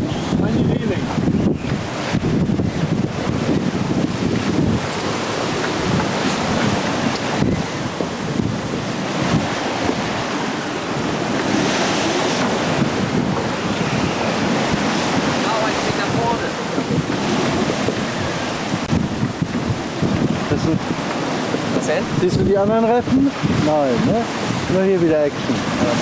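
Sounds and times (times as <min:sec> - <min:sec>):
waves breaking along hull: 0:00.0 - 0:26.0
wind buffeting microphone: 0:00.0 - 0:26.0.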